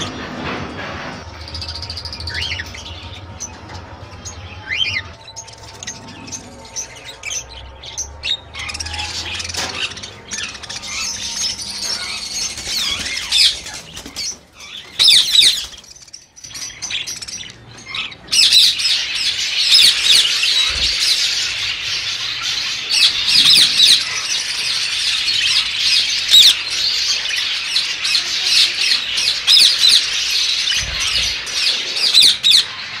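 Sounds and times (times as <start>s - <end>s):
birds chattering and squawking: 0.0s - 33.0s.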